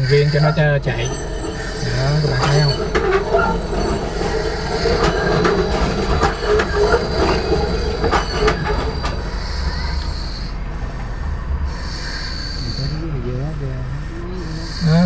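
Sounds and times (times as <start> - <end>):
tram wheels clicking over rails: 0.0 - 12.8
high wheel squeal: 0.0 - 15.0.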